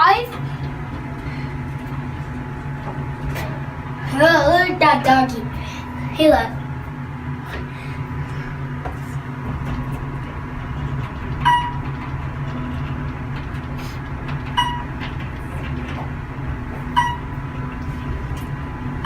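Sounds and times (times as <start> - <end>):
elevator car hum and rumble: 0.0 - 19.0
faint steady whine: 0.0 - 19.0.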